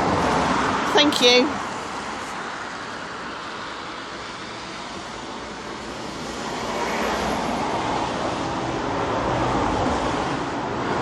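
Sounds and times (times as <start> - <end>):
road traffic noise: 0.0 - 11.0
tyres on a wet road: 0.0 - 11.0.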